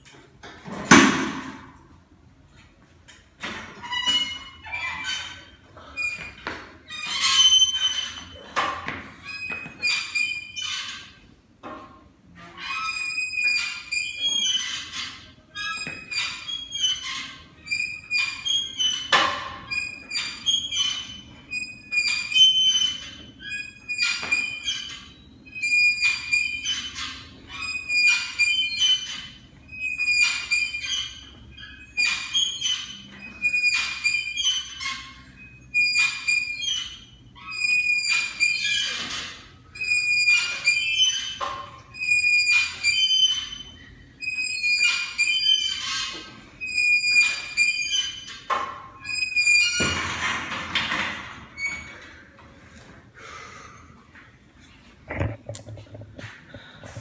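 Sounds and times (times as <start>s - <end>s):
exercise machine squeaking: 3.1s - 11.2s, 11.8s - 52.5s.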